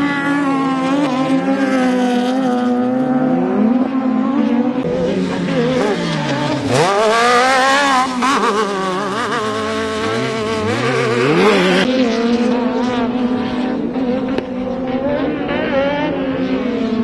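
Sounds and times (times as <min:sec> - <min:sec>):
buggy engines revving hard: 0:00.0 - 0:17.0
steady engine hum: 0:00.0 - 0:17.0.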